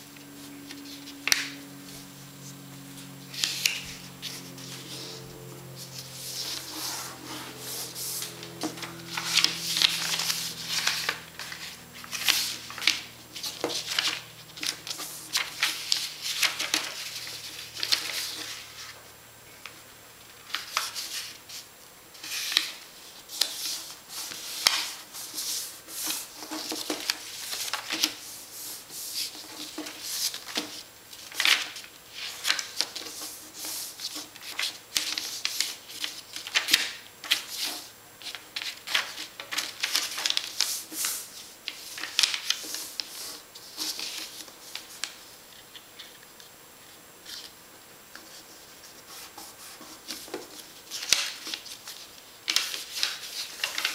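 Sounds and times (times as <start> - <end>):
paper being folded: 0.7 - 1.6, 3.3 - 18.9, 20.4 - 21.6, 22.2 - 46.4, 47.2 - 47.5, 48.1 - 53.9.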